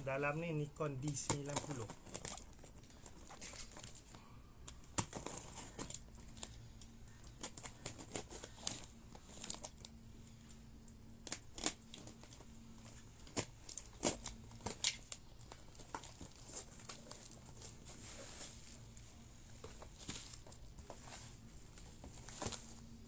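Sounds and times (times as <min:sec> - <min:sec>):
tape and cardboard crinkling: 0:00.0 - 0:23.0.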